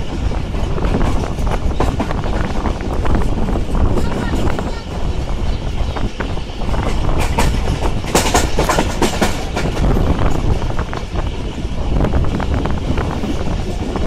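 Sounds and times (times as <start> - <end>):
train wheels rumbling and clattering: 0.0 - 14.0.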